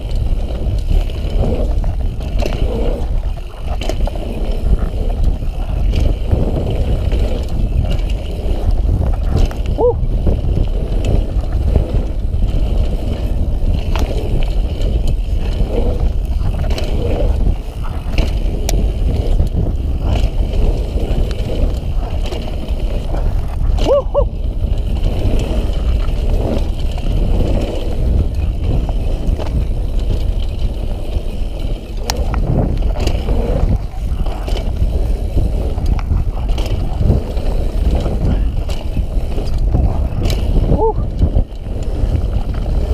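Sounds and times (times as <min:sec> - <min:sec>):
bike knocking and rattling: 0:00.0 - 0:42.9
tyre rumble: 0:00.0 - 0:42.9
wind on microphone: 0:00.0 - 0:42.9.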